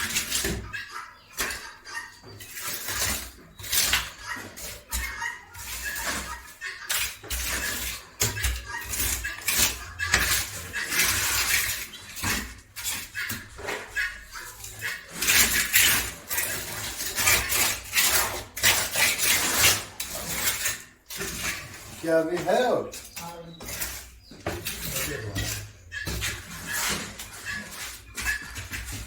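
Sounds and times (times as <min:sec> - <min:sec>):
scraping rustling and clattering: 0:00.0 - 0:29.0.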